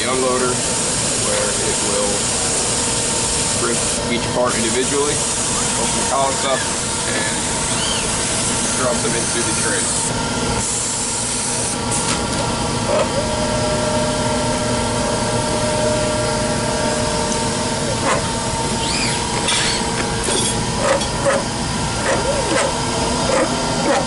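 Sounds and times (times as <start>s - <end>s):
held machine whine: 0.0s - 24.0s
machine hum: 0.0s - 24.0s.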